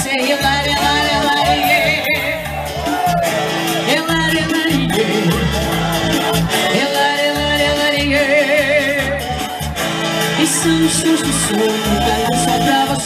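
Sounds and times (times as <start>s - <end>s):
live dance music: 0.0s - 13.0s.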